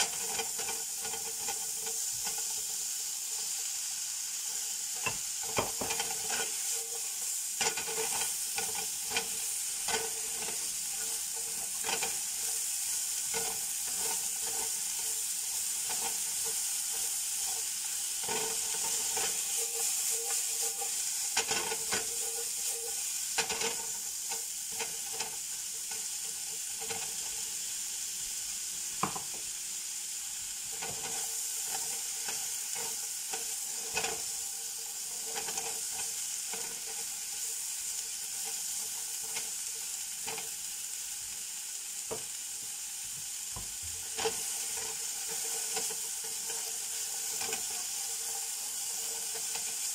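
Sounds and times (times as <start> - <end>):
spatula scraping and tapping pan: 0.0 - 3.7, 4.4 - 27.6, 29.0 - 29.5, 30.7 - 40.6, 42.1 - 49.9
vegetables sizzling in frying pan: 0.0 - 49.9.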